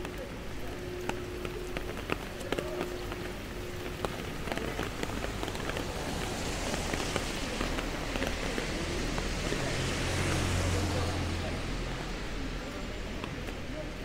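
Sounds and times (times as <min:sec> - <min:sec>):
rain hissing on pavement: 0:00.0 - 0:14.0
raindrops ticking: 0:00.0 - 0:14.0.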